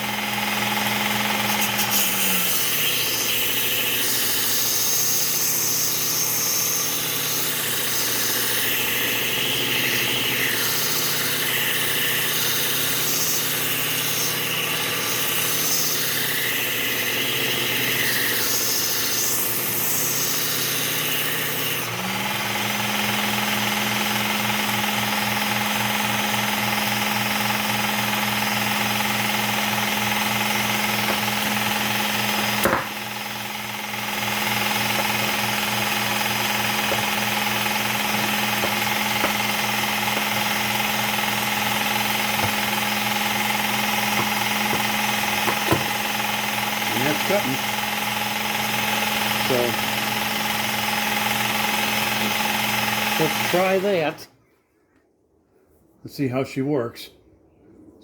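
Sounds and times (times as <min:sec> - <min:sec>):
belt sharpener motor hum: 0:00.0 - 0:54.1
blade grinding on belt: 0:00.0 - 0:54.1.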